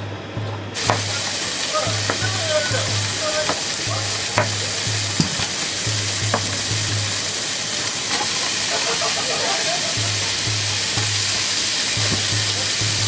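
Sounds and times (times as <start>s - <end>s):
bacon sizzling in a frying pan: 0.8s - 13.0s.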